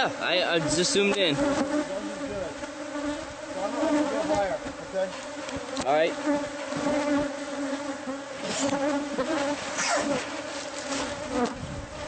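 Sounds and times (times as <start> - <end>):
bees buzzing: 0.0 - 12.0
bees flying past: 0.0 - 12.0.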